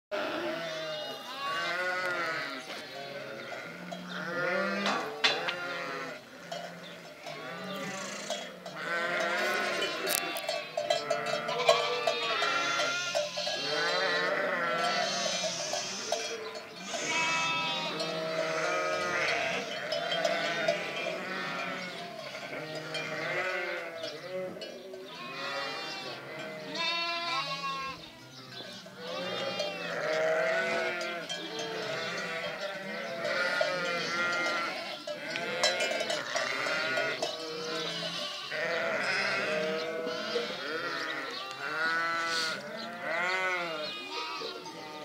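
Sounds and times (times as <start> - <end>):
sheep and lambs bleating: 0.1 - 45.0.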